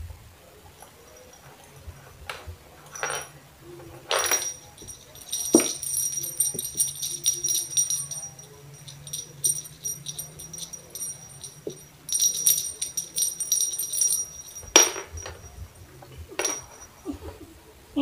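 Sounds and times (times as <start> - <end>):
small jingle bells jingling: 0.8 - 2.1, 2.8 - 17.1.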